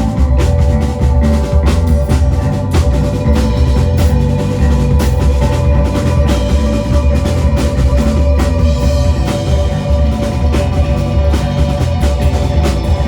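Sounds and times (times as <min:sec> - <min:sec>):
drum kit: 0:00.0 - 0:13.0
heavy bass: 0:00.0 - 0:13.0
held steady note: 0:00.0 - 0:13.0
loud live rock band: 0:00.0 - 0:13.0.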